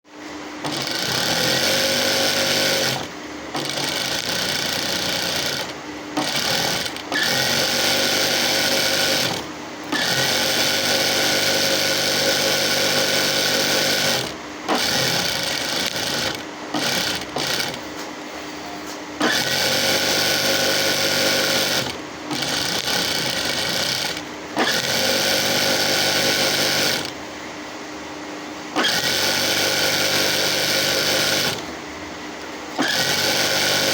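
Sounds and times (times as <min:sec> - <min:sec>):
sewing machine stitching: 0:00.6 - 0:17.9, 0:19.2 - 0:27.2, 0:28.8 - 0:31.7, 0:32.8 - 0:33.9.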